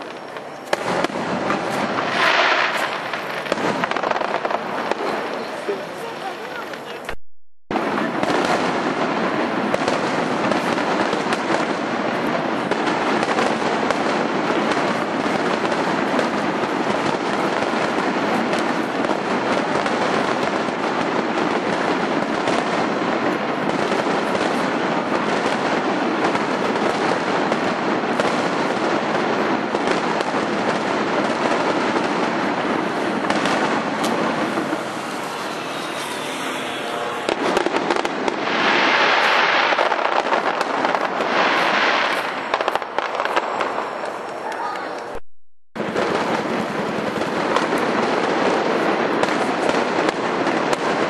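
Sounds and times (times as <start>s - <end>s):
fireworks crackling: 0.0s - 45.2s, 45.8s - 51.0s
loud firework bursts: 0.0s - 45.2s, 45.8s - 51.0s.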